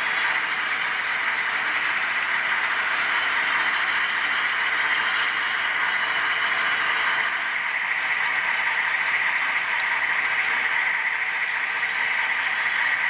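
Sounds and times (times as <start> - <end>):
model train cars rattling on rails: 0.0 - 13.0.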